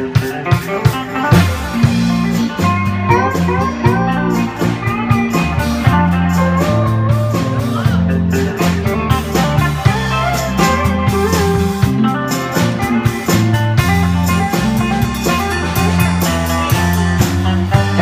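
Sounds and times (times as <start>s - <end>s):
bass: 0.0s - 18.0s
lead guitar solo: 0.0s - 18.0s
steady drum beat: 0.0s - 18.0s.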